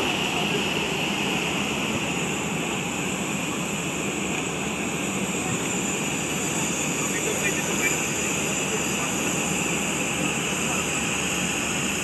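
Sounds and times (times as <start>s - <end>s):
jet aircraft engine: 0.0s - 12.0s.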